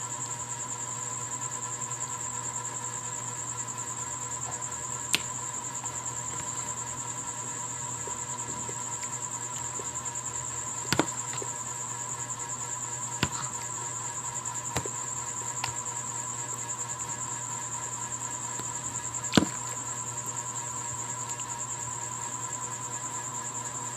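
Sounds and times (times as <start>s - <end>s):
insect trill: 0.0s - 23.9s.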